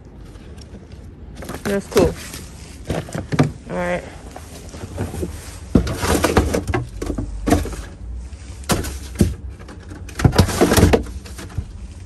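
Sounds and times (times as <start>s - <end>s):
low steady rumble: 0.0s - 12.0s
knocks of rummaging in trash: 0.3s - 12.0s.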